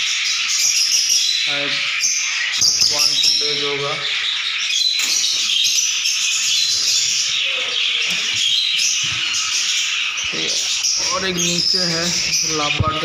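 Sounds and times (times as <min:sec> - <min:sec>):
lovebirds chattering and chirping: 0:00.0 - 0:13.0.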